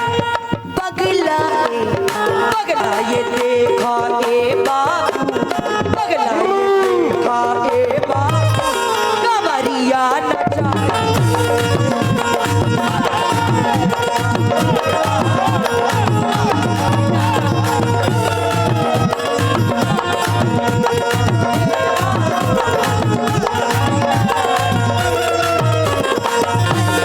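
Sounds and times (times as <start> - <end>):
folk music with tabla drumming: 0.0 - 27.0.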